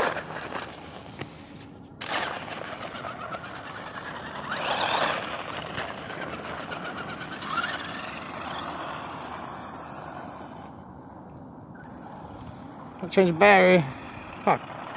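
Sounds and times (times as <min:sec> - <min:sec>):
rc truck motor whine: 0:00.0 - 0:14.9.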